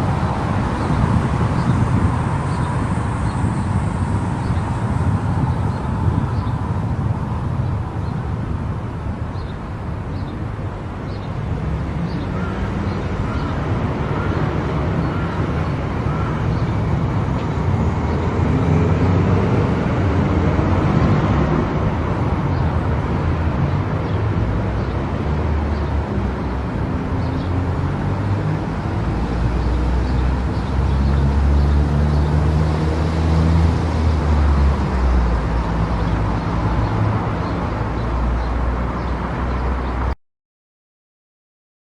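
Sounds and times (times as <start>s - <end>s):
car engine and tyre rumble: 0.0s - 40.1s.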